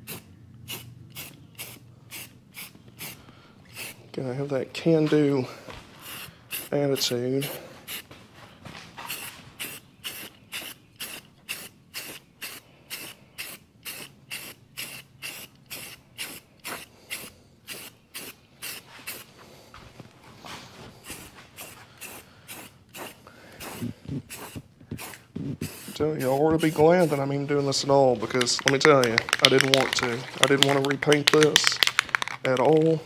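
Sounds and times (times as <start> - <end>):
aerosol spray can hissing: 0.0 - 4.0, 6.0 - 8.1, 9.0 - 19.4, 21.0 - 32.5.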